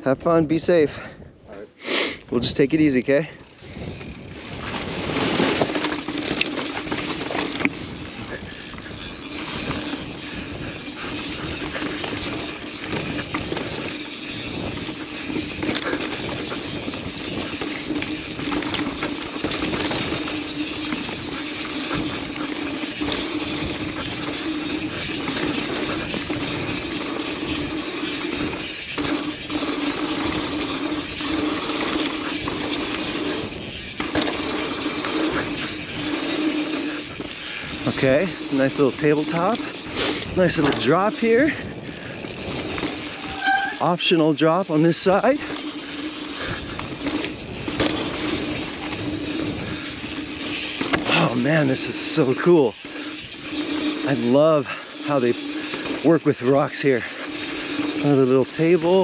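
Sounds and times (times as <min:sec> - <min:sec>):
tyres rolling on dirt trail: 0:00.0 - 0:59.0
bike freehub ratcheting buzz: 0:00.9 - 0:59.0.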